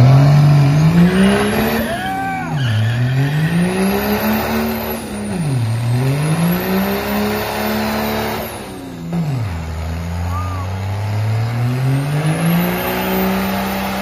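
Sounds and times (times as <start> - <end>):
diesel engine revving hard: 0.0 - 14.0.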